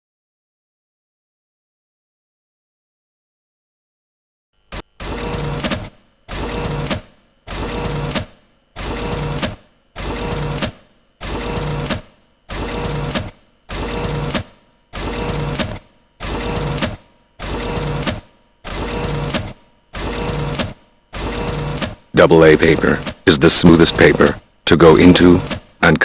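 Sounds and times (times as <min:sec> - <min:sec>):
photocopier mechanical whir: 0:04.6 - 0:26.0.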